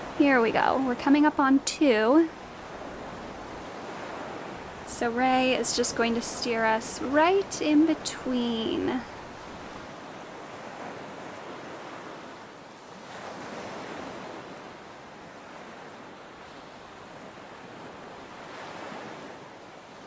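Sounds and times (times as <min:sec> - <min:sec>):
choppy sea rushing past boat: 0:00.0 - 0:20.0
wind: 0:00.0 - 0:20.0.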